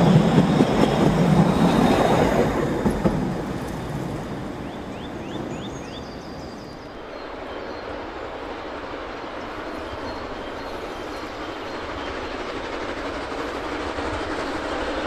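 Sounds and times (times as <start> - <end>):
train coaches rolling on rails: 0.0 - 15.0.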